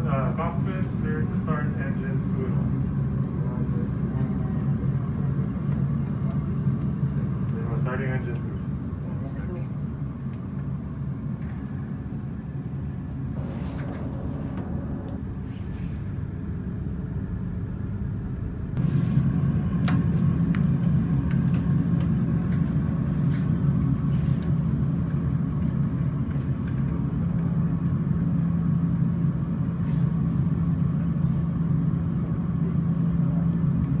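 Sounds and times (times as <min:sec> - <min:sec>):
simulated engine rumble: 0:00.0 - 0:34.0.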